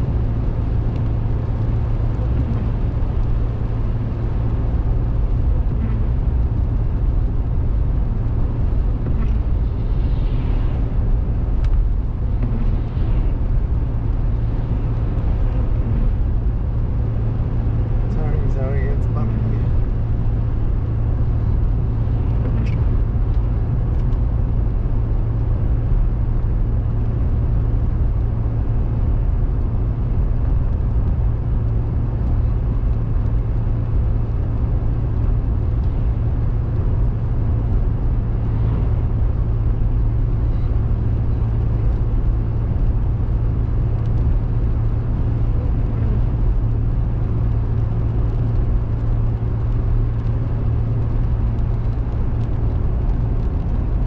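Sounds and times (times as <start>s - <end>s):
car engine and tyres drone: 0.0s - 54.0s
road noise hiss: 0.0s - 54.0s.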